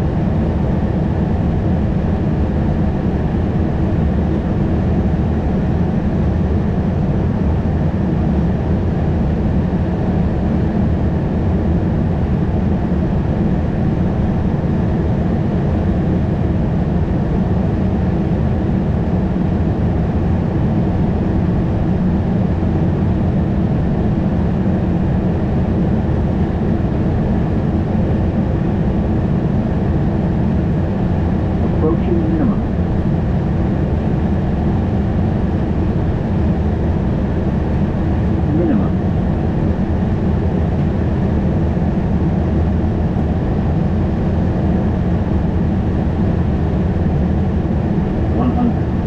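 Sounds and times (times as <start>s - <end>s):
airliner cockpit airflow and engine drone: 0.0s - 49.0s.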